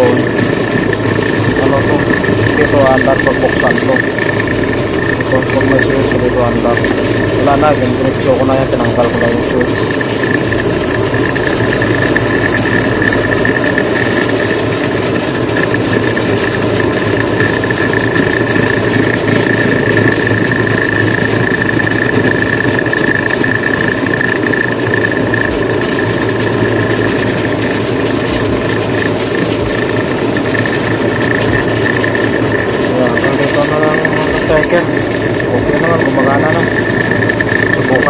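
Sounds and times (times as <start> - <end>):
washing machine whining and humming: 0.0 - 38.0.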